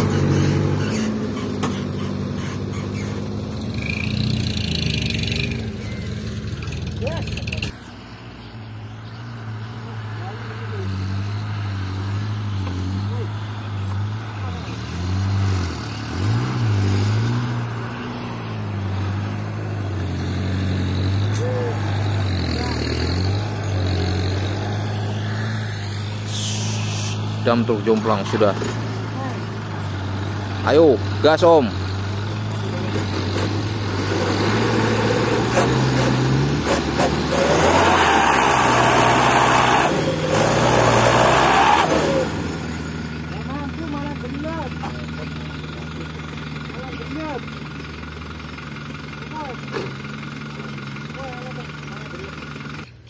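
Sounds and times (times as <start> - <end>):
truck diesel engine revving: 0.0 - 53.0.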